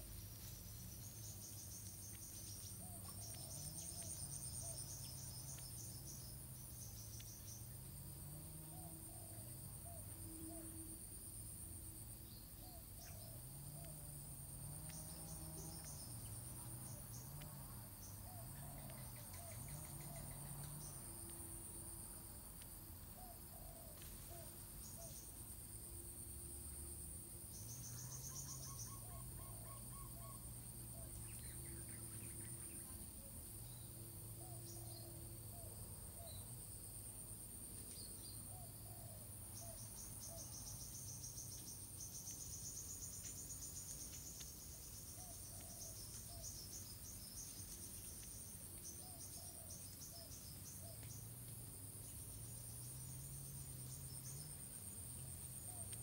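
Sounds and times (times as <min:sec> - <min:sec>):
small birds chirping: 0:00.0 - 0:10.8, 0:11.8 - 0:22.0, 0:27.4 - 0:36.6, 0:37.7 - 0:56.0
high-pitched insect trill: 0:00.0 - 0:56.0.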